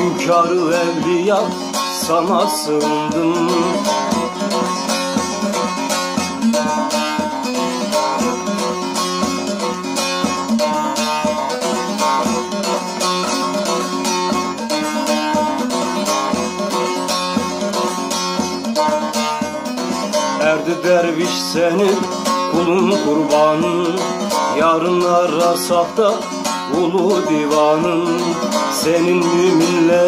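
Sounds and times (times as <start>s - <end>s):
long-necked lute strumming: 0.0s - 30.0s.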